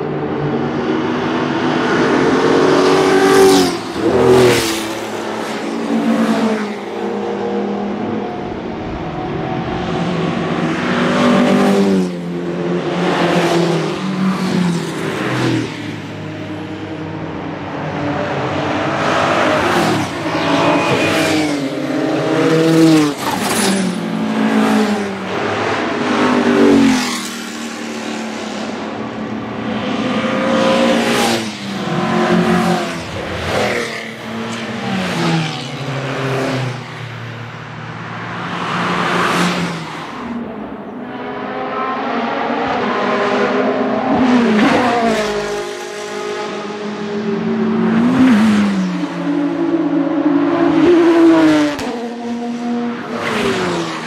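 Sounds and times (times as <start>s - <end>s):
race cars accelerating past: 0.0s - 54.0s.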